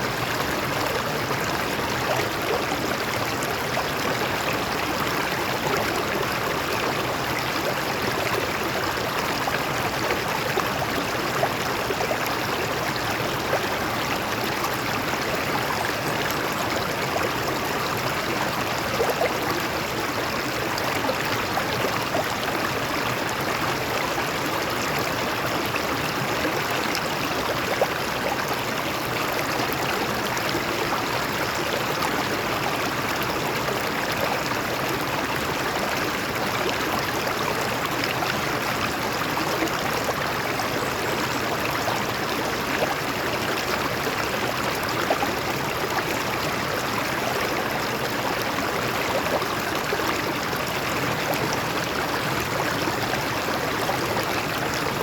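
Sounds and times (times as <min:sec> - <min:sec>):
water flowing over rocks: 0:00.0 - 0:55.0.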